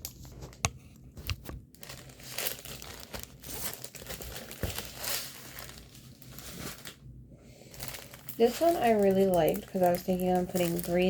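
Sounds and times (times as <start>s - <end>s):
plastic packaging crinkling: 1.2s - 11.0s.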